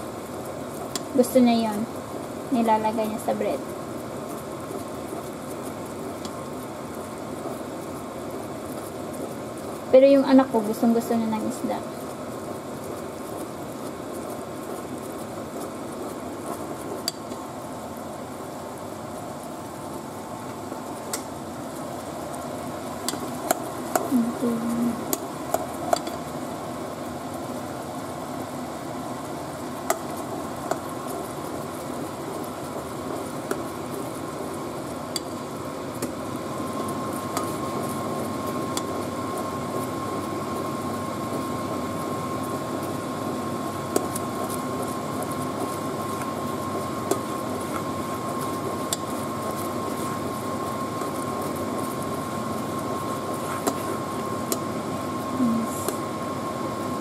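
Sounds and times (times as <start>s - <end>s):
pot simmering with bubbling: 0.0s - 57.0s.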